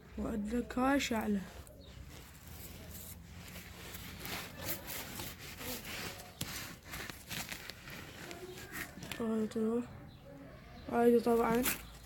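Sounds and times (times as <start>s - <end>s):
scratchy scraping and rustling: 0.0s - 9.6s, 10.7s - 12.0s.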